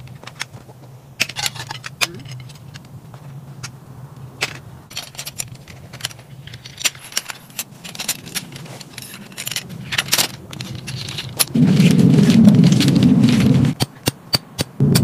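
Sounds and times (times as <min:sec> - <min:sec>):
metal tent poles clicking: 0:01.2 - 0:02.9, 0:04.4 - 0:14.7.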